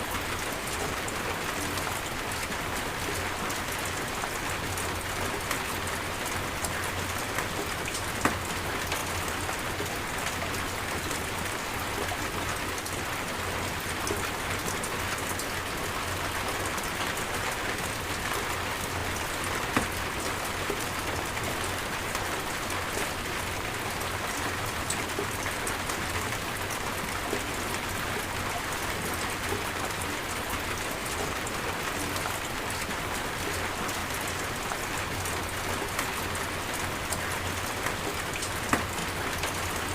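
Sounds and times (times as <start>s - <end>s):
rain pouring: 0.0s - 39.9s.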